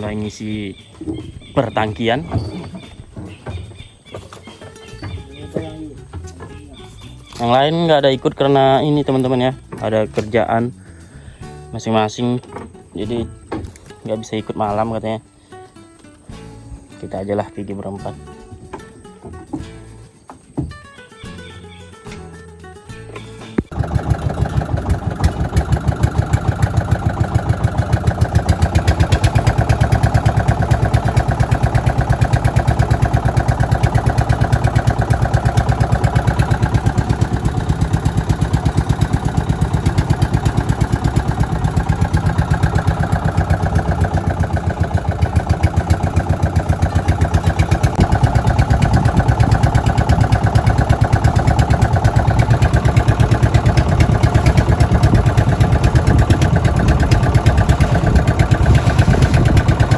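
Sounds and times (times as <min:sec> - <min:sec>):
small boat engine chugging: 0:00.0 - 0:15.6, 0:23.3 - 0:59.9.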